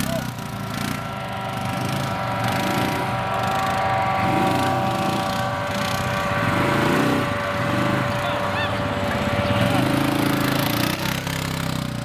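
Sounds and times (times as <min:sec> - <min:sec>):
quad bike engine running: 0:00.0 - 0:12.0
steady high whine: 0:00.0 - 0:12.0.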